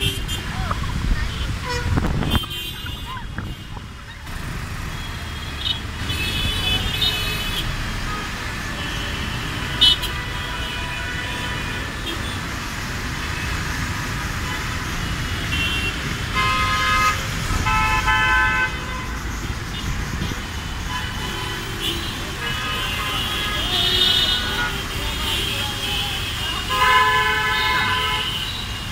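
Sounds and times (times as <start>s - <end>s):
car horns honking: 0.0s - 0.6s, 1.3s - 3.9s, 4.8s - 12.5s, 14.4s - 28.9s
traffic rumble on wet road: 0.0s - 28.9s.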